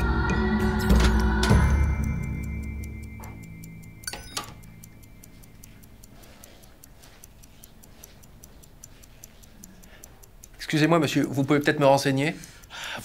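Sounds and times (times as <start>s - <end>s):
clock ticking fast: 0.0s - 13.0s.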